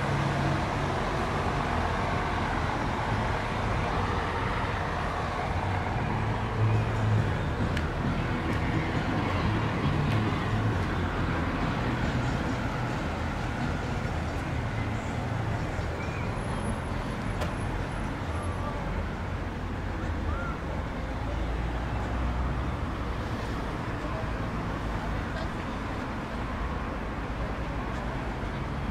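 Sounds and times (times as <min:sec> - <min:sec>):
low rumble of traffic: 0:00.0 - 0:28.9
faint voices: 0:01.1 - 0:28.9.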